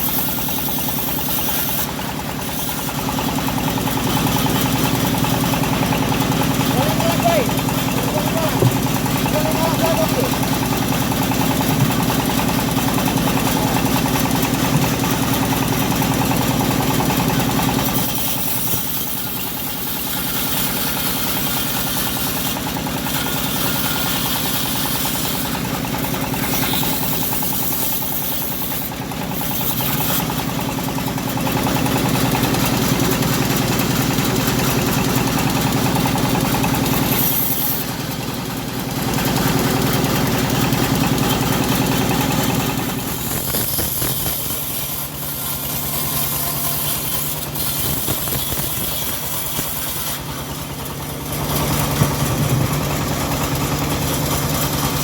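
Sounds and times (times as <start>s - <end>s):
engine-driven bandsaw mill running: 0.0s - 55.0s.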